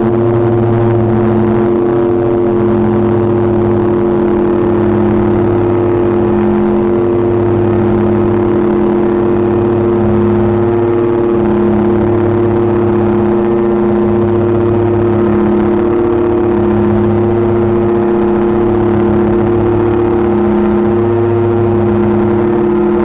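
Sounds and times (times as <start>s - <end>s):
gritty noise wash: 0.0s - 23.0s
steady low electronic tones: 0.0s - 23.0s.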